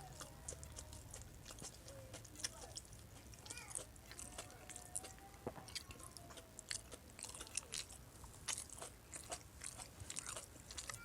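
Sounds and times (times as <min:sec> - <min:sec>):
person chewing and lip-smacking: 0:00.0 - 0:11.0.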